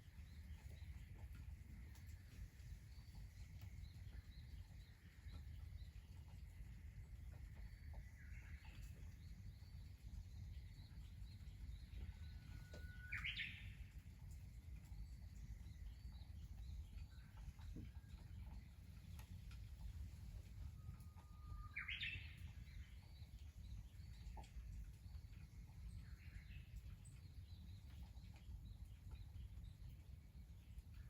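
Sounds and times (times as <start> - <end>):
faint birds chirping: 0.0 - 31.0
low outdoor rumble: 0.0 - 31.0.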